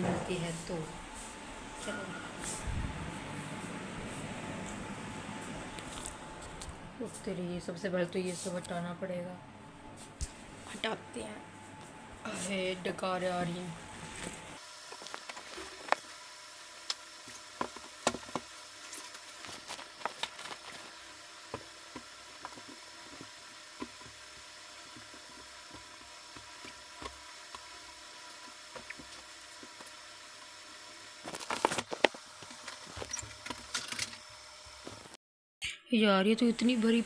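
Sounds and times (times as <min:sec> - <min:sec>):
faint steady hum: 0:00.0 - 0:35.1.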